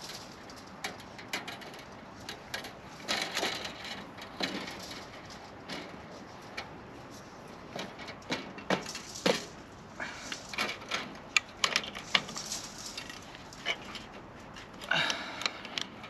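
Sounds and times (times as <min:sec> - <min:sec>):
fence wire clicking and scraping: 0:00.0 - 0:16.0.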